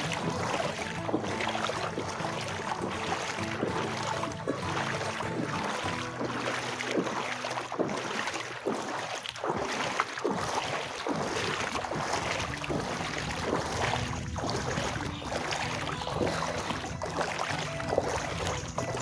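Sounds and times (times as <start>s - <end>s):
wading through floodwater: 0.0s - 19.0s.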